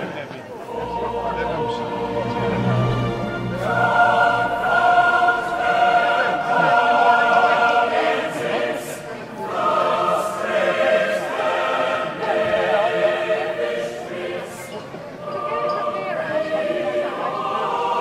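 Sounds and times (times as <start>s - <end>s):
choir singing held notes: 0.5s - 18.0s.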